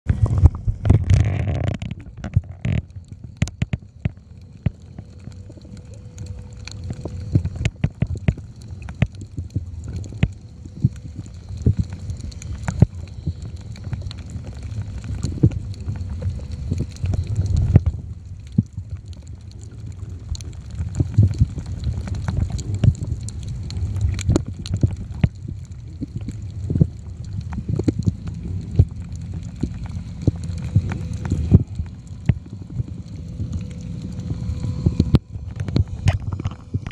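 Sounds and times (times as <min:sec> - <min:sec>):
muffled underwater rumble: 0:00.1 - 0:36.9
sharp clicks and crackles: 0:00.1 - 0:36.9.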